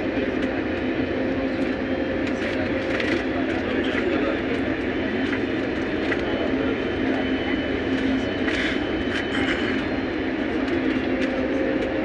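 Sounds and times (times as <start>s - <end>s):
airliner engines and airflow: 0.0s - 12.0s.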